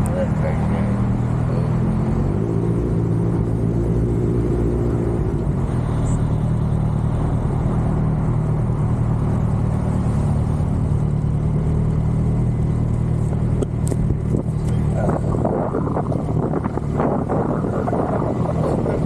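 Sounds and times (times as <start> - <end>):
continuous rushing noise: 0.0 - 19.0
motorcycle engine running: 0.0 - 19.0.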